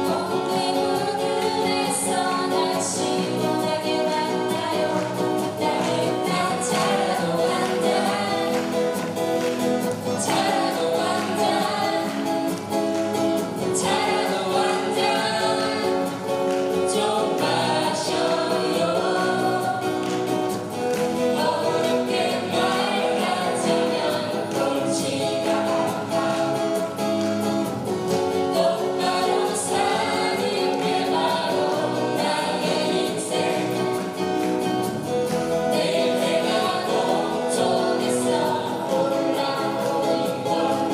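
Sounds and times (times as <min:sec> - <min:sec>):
strummed acoustic guitars: 0:00.0 - 0:40.9
voices singing together: 0:00.0 - 0:40.9.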